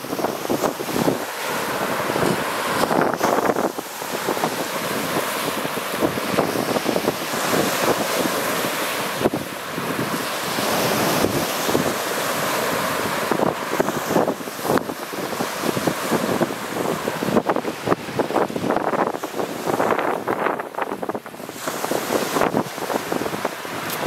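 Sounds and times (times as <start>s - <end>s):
waves breaking on rocky shore: 0.0s - 24.0s
wind buffeting microphone: 0.0s - 24.0s.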